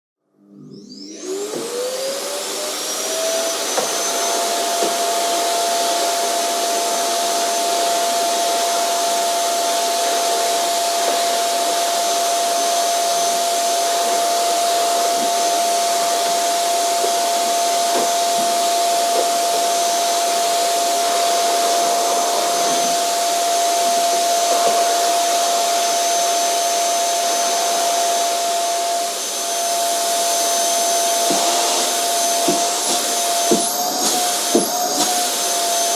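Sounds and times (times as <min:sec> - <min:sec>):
vacuum cleaner running: 0:00.4 - 0:35.9.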